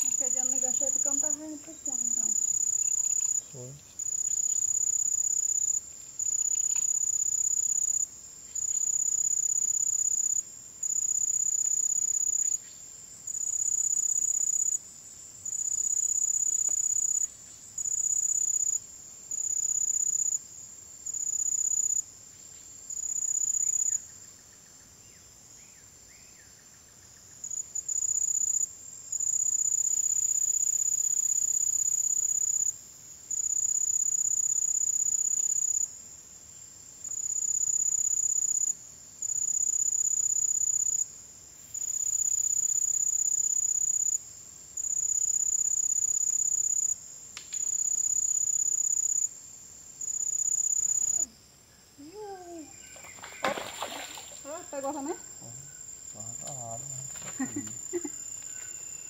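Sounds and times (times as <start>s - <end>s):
cricket trilling: 0.0s - 59.0s.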